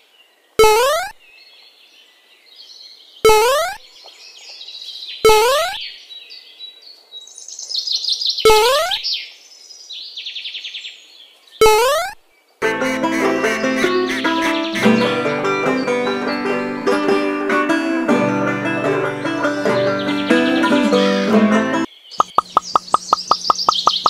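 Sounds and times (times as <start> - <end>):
birds chirping and trilling: 0.0 - 16.8, 19.7 - 24.0.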